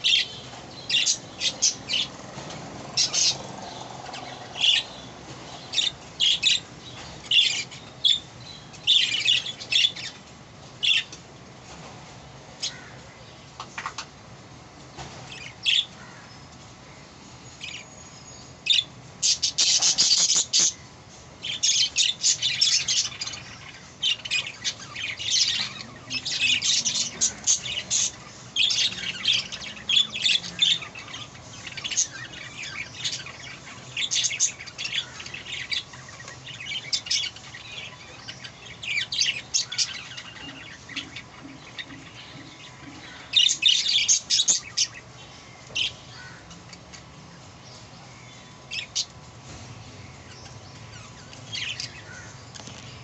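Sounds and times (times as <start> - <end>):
budgerigars chirping and squawking: 0.0 - 10.2, 10.8 - 11.2, 18.6 - 47.1, 47.7 - 53.0.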